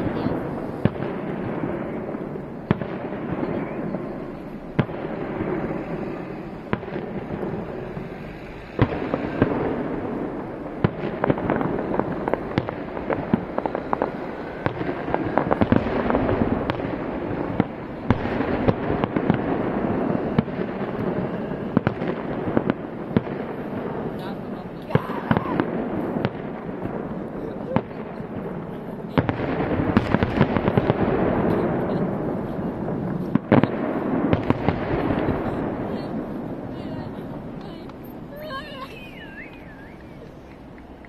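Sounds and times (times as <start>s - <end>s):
firework bangs: 0.0s - 41.0s
firework crackling: 0.0s - 41.0s.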